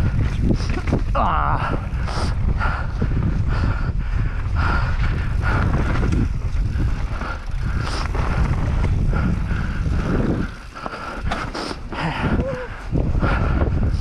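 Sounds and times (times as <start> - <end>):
bike rattling over rough ground: 0.0 - 14.0
bike running noise: 0.0 - 14.0
wind buffeting microphone: 0.0 - 14.0.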